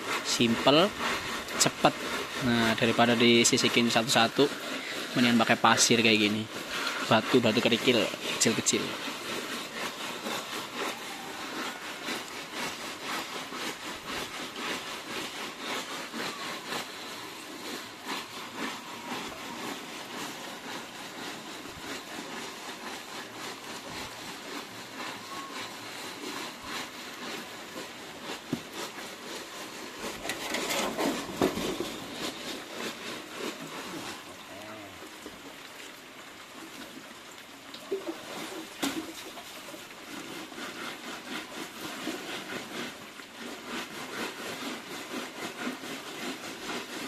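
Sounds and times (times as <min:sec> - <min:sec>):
fish scrubbed in gritty sand: 0:00.0 - 0:47.0.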